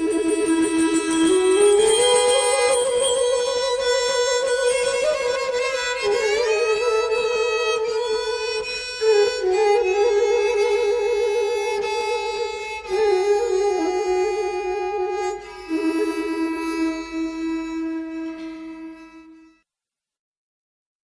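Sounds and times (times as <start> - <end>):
slow melody of held notes with vibrato: 0.0 - 19.6.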